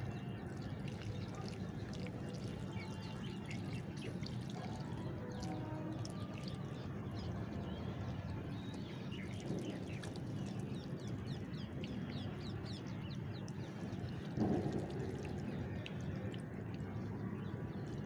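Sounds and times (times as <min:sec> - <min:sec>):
water trickling onto soil: 0:00.0 - 0:18.0.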